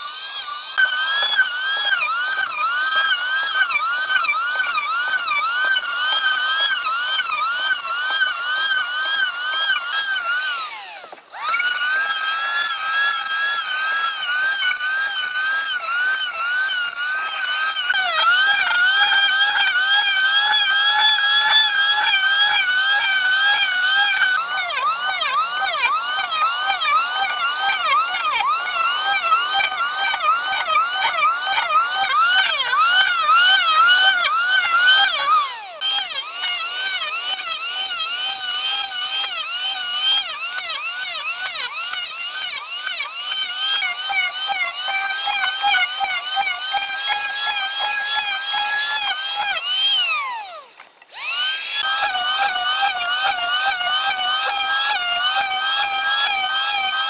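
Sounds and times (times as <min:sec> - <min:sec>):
chainsaw running at high revs: 0:00.0 - 0:57.0.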